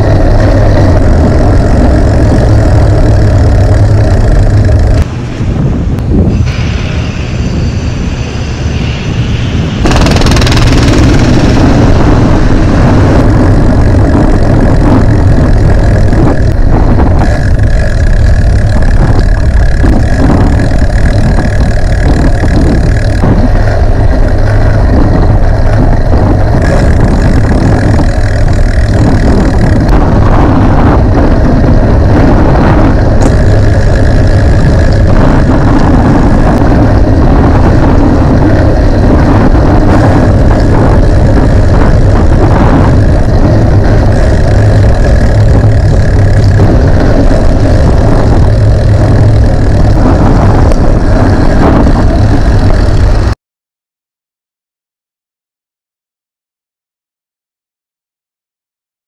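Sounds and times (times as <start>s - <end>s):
road noise: 0.0s - 53.4s
wind rumbling on microphone: 0.0s - 53.4s.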